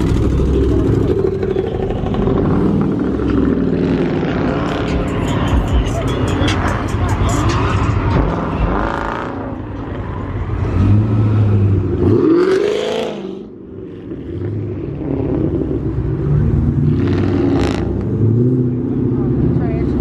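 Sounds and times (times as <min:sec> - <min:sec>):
car engine running and revving: 0:00.0 - 0:20.0.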